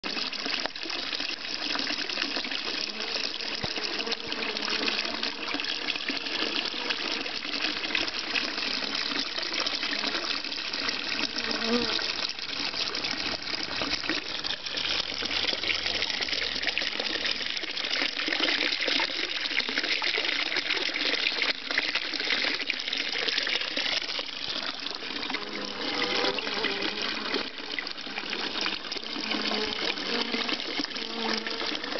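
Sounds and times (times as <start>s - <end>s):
water splashing into a pond: 0.0s - 31.9s.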